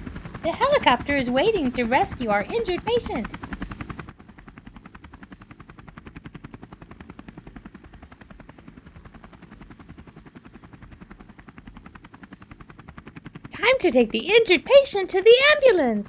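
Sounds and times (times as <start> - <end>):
electronic toy helicopter rotor: 0.0 - 16.0.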